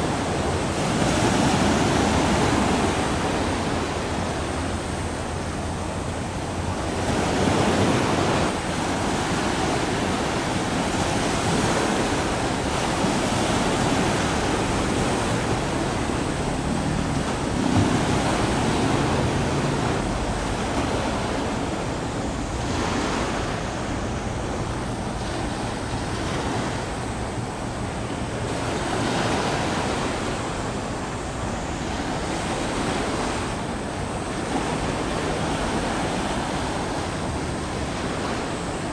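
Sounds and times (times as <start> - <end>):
waves washing: 0.0 - 38.9.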